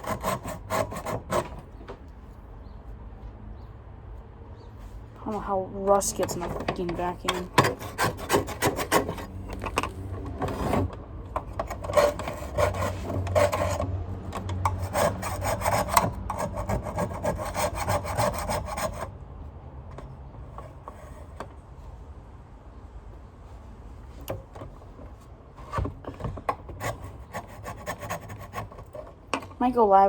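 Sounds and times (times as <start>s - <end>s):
scraping rust off metal: 0.0s - 2.2s, 4.6s - 19.2s, 19.9s - 21.8s, 24.0s - 29.7s.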